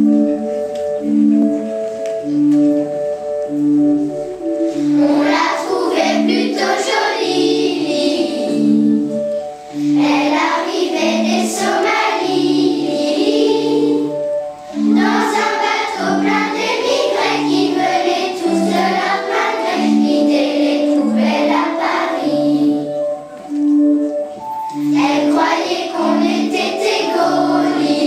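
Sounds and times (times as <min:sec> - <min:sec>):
children's choir singing: 0:00.0 - 0:28.0
held low instrumental notes: 0:00.0 - 0:28.0.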